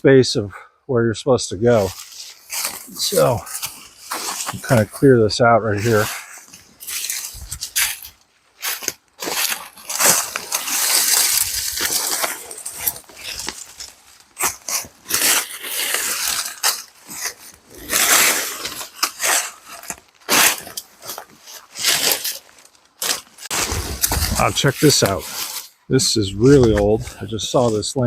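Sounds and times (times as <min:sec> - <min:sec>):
dry leaves and brush rustling: 0:01.7 - 0:28.0.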